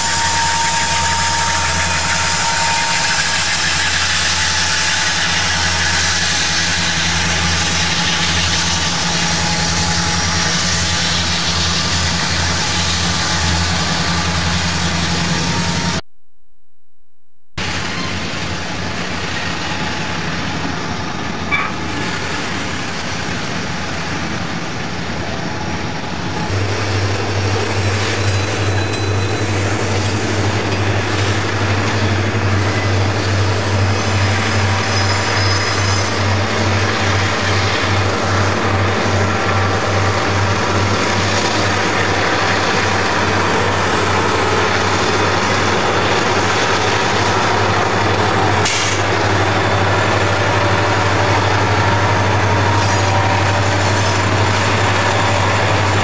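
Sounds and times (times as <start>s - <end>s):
freight train wheel and rail noise: 0.0s - 16.1s, 17.6s - 56.0s
diesel locomotive engine drone: 0.0s - 56.0s.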